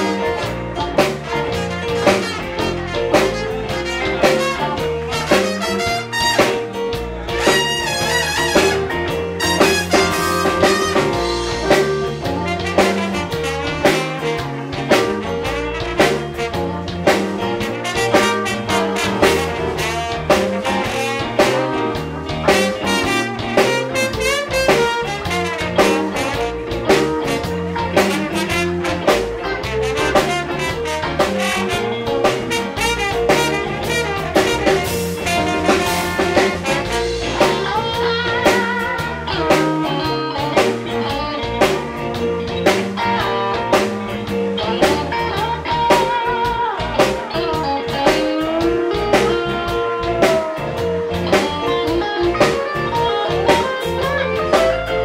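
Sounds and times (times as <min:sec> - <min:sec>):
drum kit beat: 0:00.0 - 0:55.0
live blues band playing: 0:00.0 - 0:55.0.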